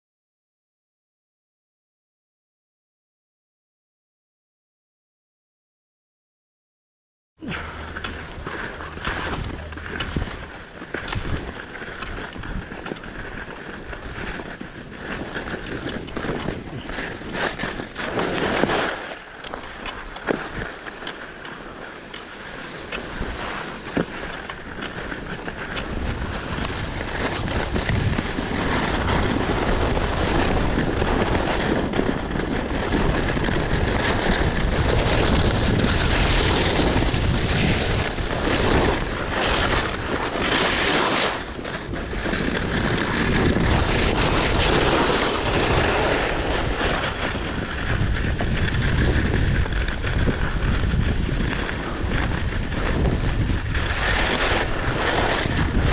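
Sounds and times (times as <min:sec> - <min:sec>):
skis scraping over snow: 0:07.4 - 0:55.9
wind buffeting microphone: 0:07.4 - 0:55.9.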